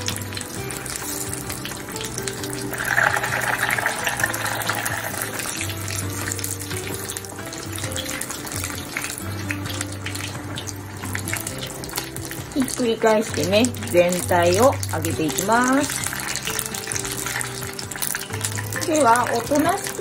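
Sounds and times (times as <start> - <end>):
background music with bass: 0.0 - 20.0
tofu deep-frying in oil: 0.0 - 20.0.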